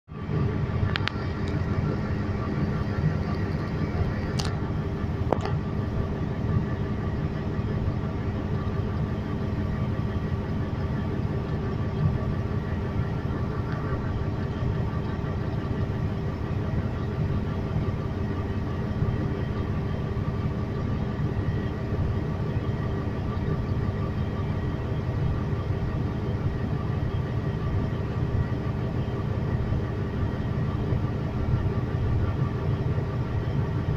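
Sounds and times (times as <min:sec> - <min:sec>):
diesel truck engine idling: 0:00.1 - 0:33.9.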